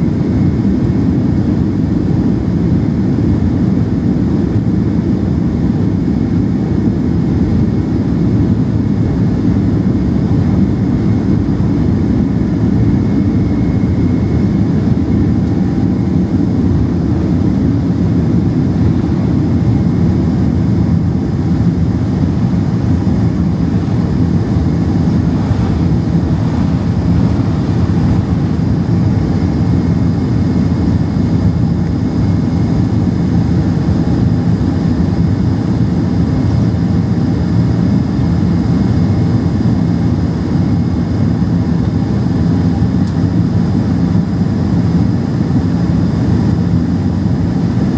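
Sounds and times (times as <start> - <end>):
jet engines at takeoff thrust: 0.0 - 47.9.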